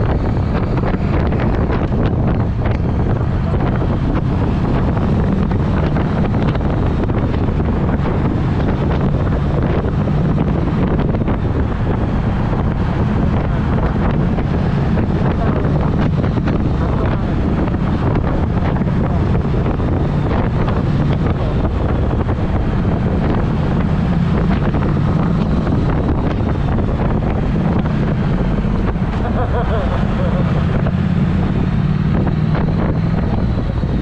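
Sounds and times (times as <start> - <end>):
motorcycle engine running: 0.0 - 34.0
wind rushing over microphone: 0.0 - 34.0.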